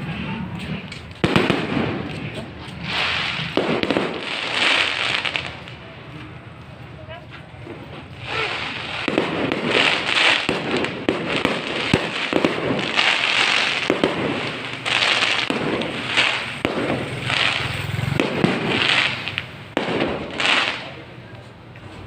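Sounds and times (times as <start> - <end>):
fireworks banging and crackling: 0.0 - 22.0.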